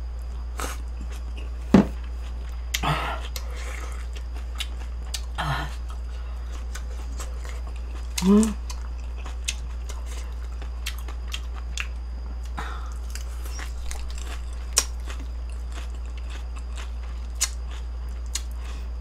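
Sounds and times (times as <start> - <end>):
steady low hum: 0.0 - 19.0
person chewing food: 0.2 - 19.0.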